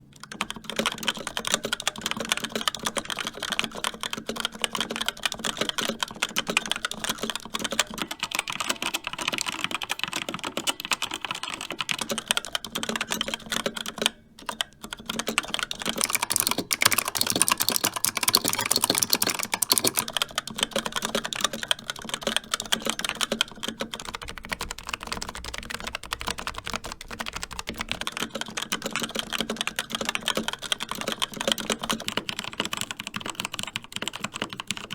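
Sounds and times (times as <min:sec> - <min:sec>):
fast typing on mechanical keyboards: 0:00.1 - 0:34.9.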